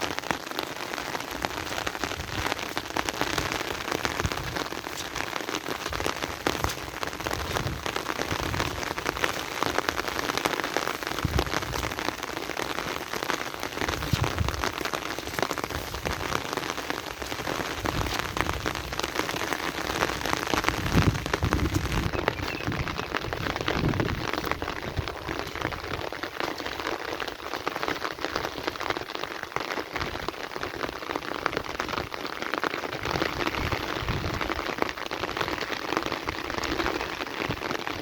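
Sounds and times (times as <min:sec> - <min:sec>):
heavy rain on hard surface: 0:00.0 - 0:38.0.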